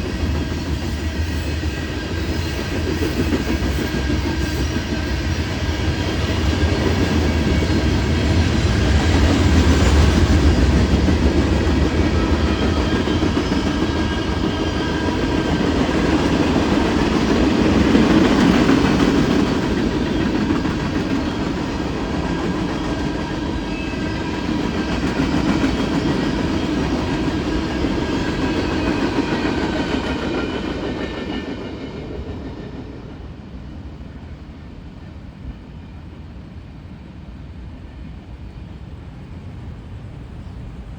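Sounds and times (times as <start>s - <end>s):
freight train cars rumbling: 0.0s - 40.9s.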